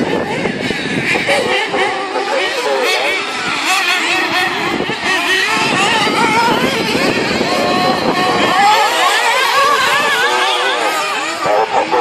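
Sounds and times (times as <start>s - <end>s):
radio-controlled car motors buzzing: 0.0s - 12.0s.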